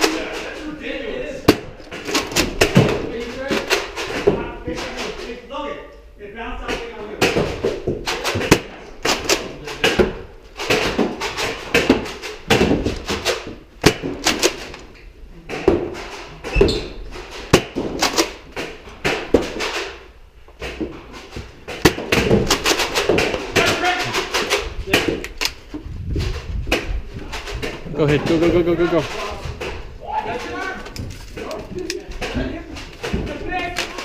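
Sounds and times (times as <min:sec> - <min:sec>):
balls striking walls and furniture: 0:00.0 - 0:05.4, 0:06.5 - 0:34.0.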